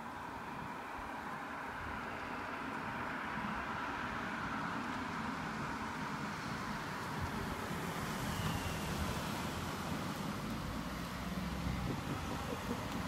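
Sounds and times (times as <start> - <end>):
car passing close: 0.0 - 13.0
cars driving: 0.0 - 13.0.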